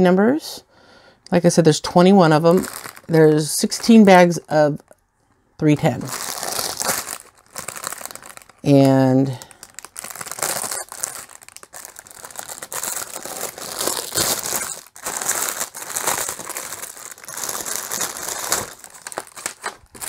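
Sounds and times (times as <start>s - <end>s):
plastic bags crinkling: 1.8s - 4.9s, 5.7s - 20.0s.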